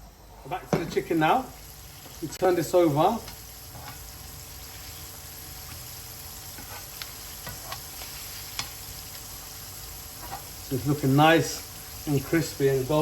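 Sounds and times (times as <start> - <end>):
chicken frying in a pan: 0.6 - 13.0.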